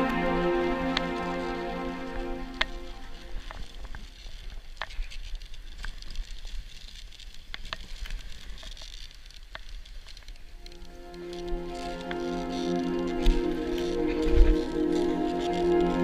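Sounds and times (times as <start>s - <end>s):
sled runners scraping snow: 0.0s - 16.0s
sharp clicks and creaks: 2.4s - 16.0s.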